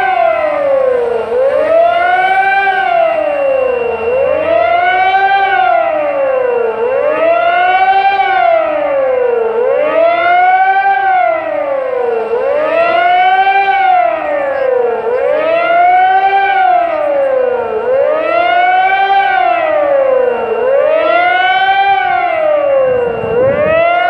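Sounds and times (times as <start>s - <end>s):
civil defence sirens wailing: 0.0s - 24.0s.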